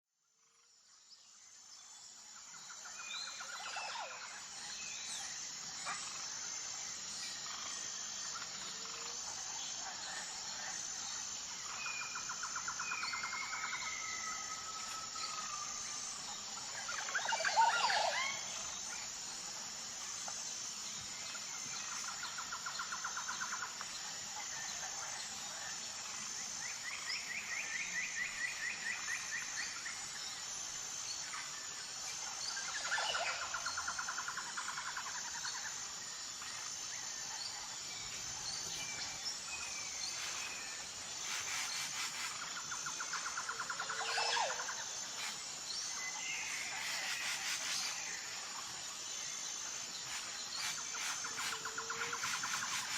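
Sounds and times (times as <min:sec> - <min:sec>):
high pulsing insect chorus: 0:00.2 - 0:52.9.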